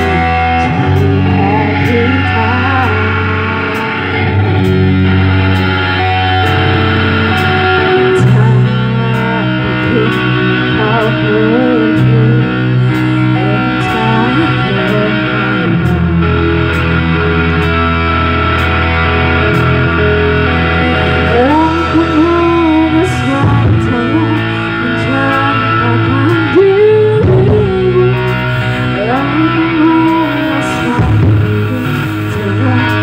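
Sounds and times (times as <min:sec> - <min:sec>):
bass guitar: 0:00.0 - 0:33.0
drums: 0:00.0 - 0:33.0
electric guitars: 0:00.0 - 0:33.0.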